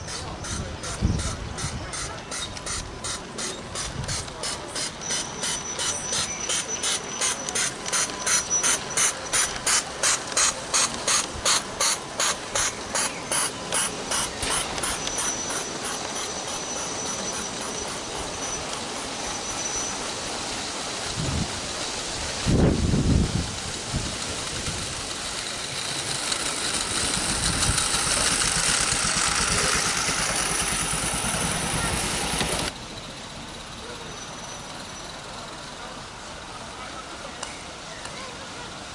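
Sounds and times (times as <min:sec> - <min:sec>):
steam locomotive hissing chuff: 0:00.0 - 0:38.9.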